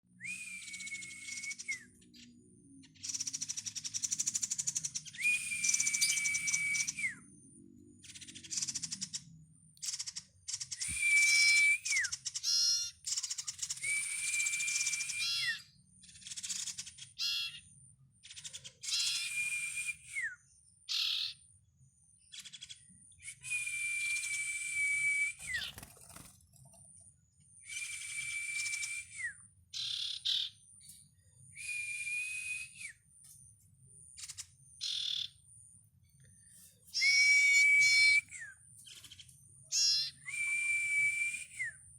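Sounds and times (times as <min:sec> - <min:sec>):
bird whistling calls: 0:00.2 - 0:02.4, 0:03.0 - 0:07.3, 0:09.8 - 0:17.6, 0:18.3 - 0:21.4, 0:22.3 - 0:26.3, 0:27.6 - 0:33.2, 0:34.2 - 0:35.4, 0:36.4 - 0:41.9.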